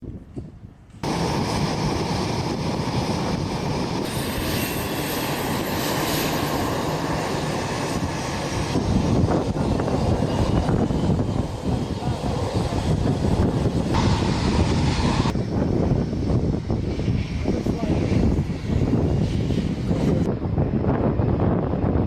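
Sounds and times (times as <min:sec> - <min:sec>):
fighter jet engine roar: 0:01.0 - 0:22.0.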